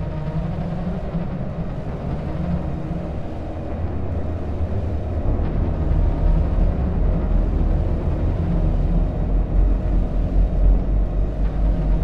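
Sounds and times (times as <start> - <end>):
distorted low rumble drone: 0.0 - 12.0.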